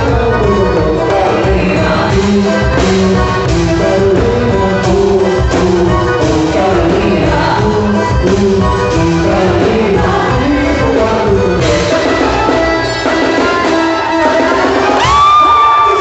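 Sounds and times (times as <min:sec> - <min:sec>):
folk dance music with singing: 0:00.0 - 0:16.0.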